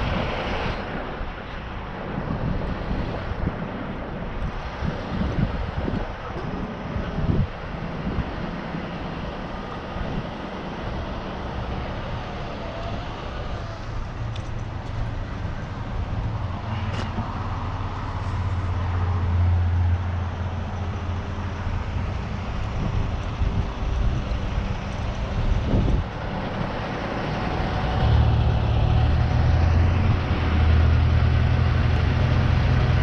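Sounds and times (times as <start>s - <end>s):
truck engine idling: 0.8s - 33.0s.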